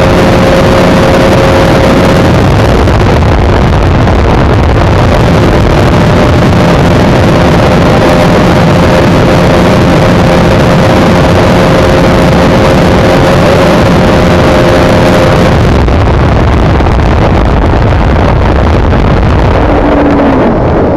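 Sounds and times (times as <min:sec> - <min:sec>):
motorcycle engine at high speed: 0:00.0 - 0:20.9
wind rush on microphone: 0:00.0 - 0:20.9.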